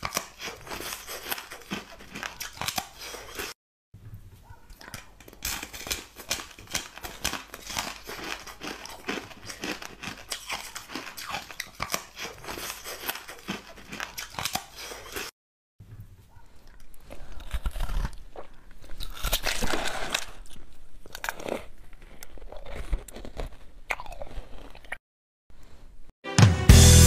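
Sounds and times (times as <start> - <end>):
person chewing crunchy food: 0.0 - 3.6, 4.7 - 15.4, 16.4 - 25.0.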